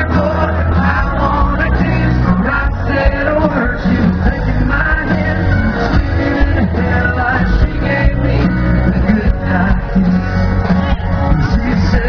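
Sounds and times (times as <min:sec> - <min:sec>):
man singing ballad: 0:00.0 - 0:10.5, 0:11.2 - 0:12.0
acoustic guitar: 0:00.0 - 0:12.0
country band playing live: 0:00.0 - 0:12.0.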